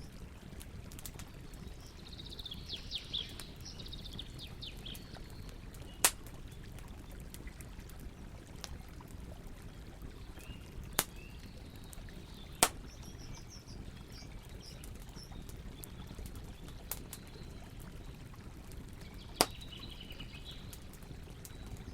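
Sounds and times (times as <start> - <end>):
campfire crackling and popping: 0.0 - 21.9
flowing water: 0.0 - 21.9
small birds chirping: 1.1 - 8.4, 9.6 - 21.9.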